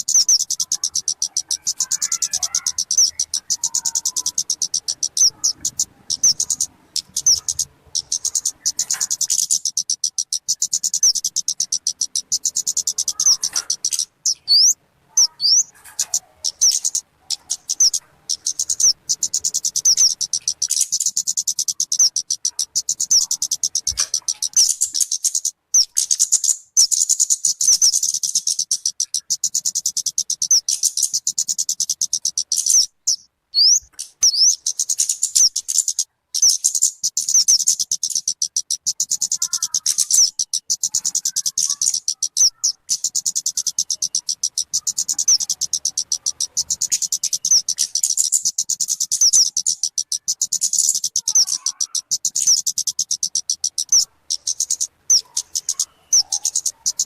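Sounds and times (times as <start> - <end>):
bird calling high-pitched notes: 0.0 - 57.0.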